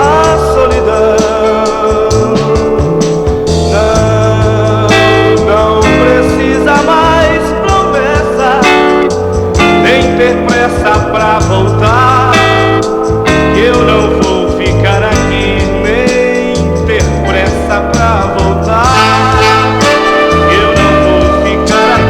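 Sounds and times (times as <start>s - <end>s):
instrumental music with guitar: 0.0s - 22.0s.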